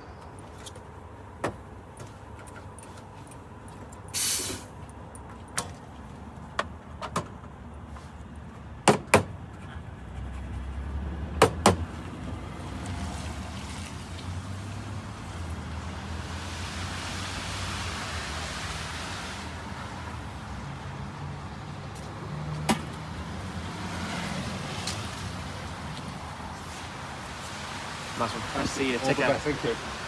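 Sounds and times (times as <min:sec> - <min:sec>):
cars passing by: 0:00.0 - 0:30.0.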